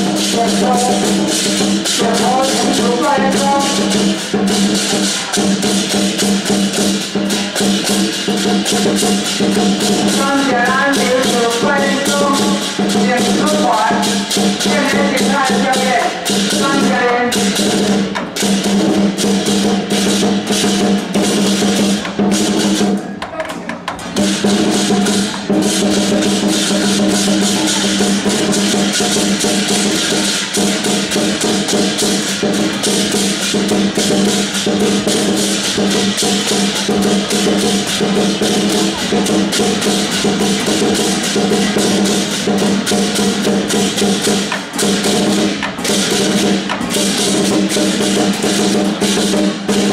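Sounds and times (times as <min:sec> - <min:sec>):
crashing cymbals: 0:00.0 - 0:23.0, 0:24.0 - 0:49.9
large drum beaten rapidly: 0:00.0 - 0:49.9.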